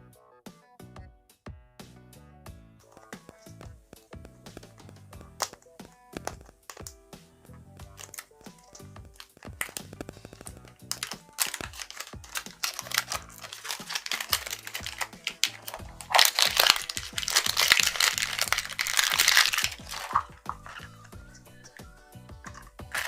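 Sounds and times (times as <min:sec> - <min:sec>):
background music: 0:00.0 - 0:23.0
crackly crinkling and crunching: 0:02.9 - 0:23.0.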